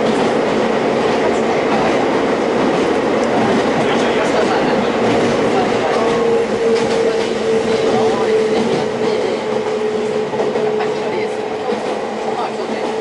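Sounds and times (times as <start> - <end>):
train motor humming: 0.0 - 13.0
train wheels clattering on track: 0.0 - 13.0.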